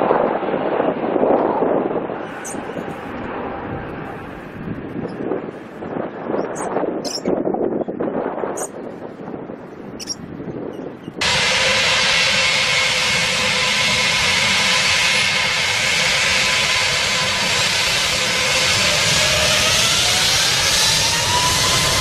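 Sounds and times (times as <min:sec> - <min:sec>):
jet engines whining: 0:00.3 - 0:22.0.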